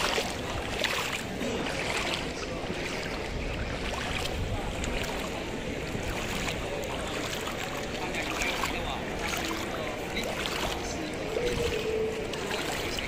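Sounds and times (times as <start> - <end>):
people wading through water: 0.0 - 13.0
wind buffeting microphone: 0.0 - 13.0.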